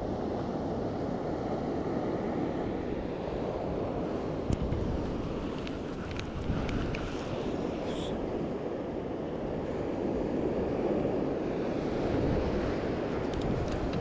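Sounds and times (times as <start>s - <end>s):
surf washing on beach: 0.0s - 14.0s
wind buffeting microphone: 1.6s - 14.0s.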